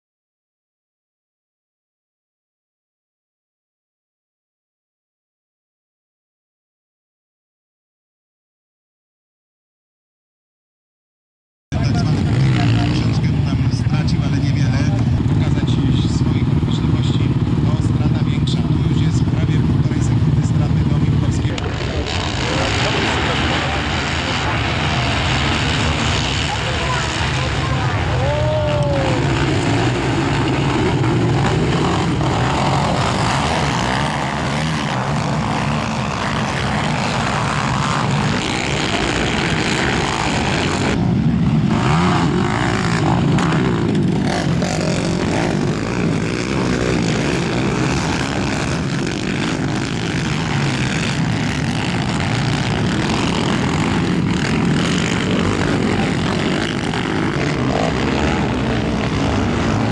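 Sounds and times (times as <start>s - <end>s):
quad engines revving: 11.8s - 59.9s.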